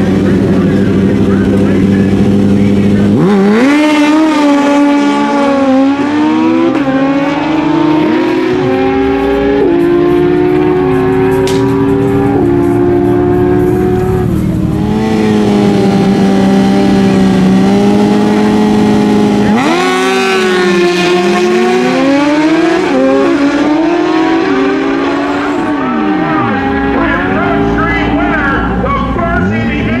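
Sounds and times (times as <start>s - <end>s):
motorcycles at full throttle: 0.0s - 30.0s.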